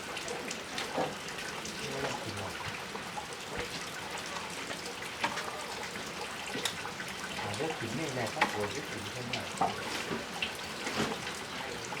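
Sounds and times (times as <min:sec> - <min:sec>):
small drips and clicks: 0:00.0 - 0:12.0
water running and splashing: 0:00.0 - 0:12.0.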